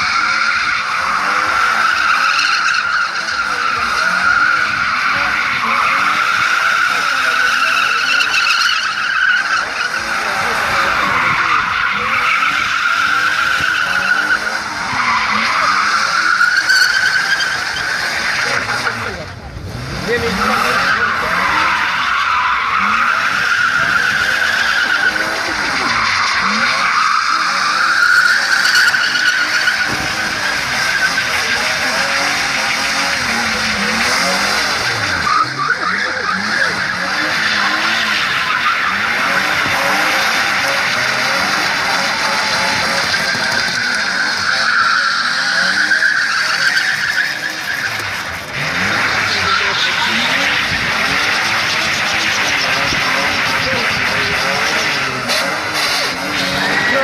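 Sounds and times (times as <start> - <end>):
tyres squealing: 0.0 - 19.2, 20.1 - 57.0
car engine revving: 0.0 - 57.0.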